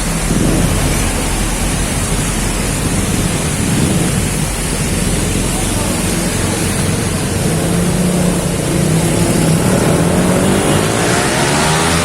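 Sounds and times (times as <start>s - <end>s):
heavy rain pouring: 0.0s - 12.0s
vehicle engine passing: 0.0s - 12.0s.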